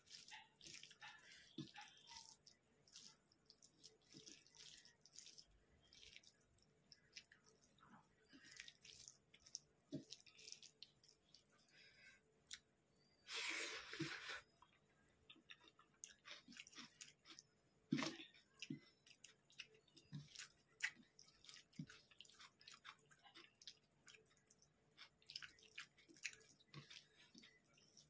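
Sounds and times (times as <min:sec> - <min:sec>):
hand mixing wet food: 0:00.0 - 0:28.0.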